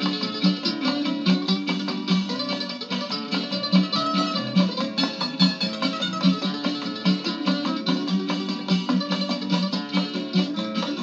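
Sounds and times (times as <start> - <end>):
acoustic string band music: 0.0 - 11.0.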